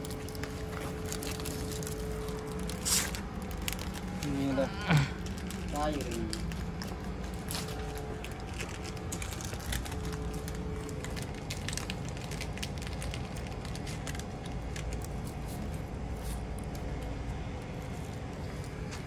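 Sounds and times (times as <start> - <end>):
plastic packaging crackling: 0.0 - 19.0
traffic rumble: 0.0 - 19.0.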